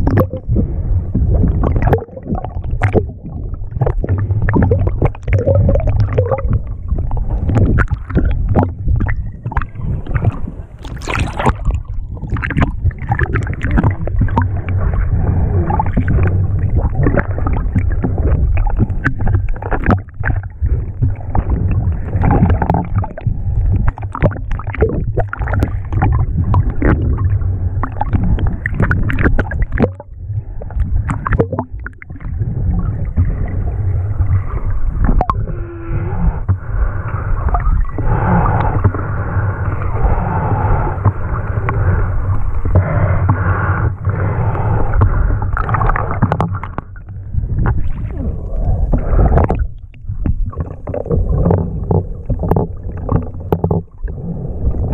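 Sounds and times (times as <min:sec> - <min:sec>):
small underwater clicks and knocks: 0:00.0 - 0:14.9, 0:15.7 - 0:32.3, 0:35.0 - 0:35.5, 0:38.6 - 0:39.0, 0:41.0 - 0:43.5, 0:44.5 - 0:54.9
muffled underwater water gurgling: 0:00.0 - 0:54.9.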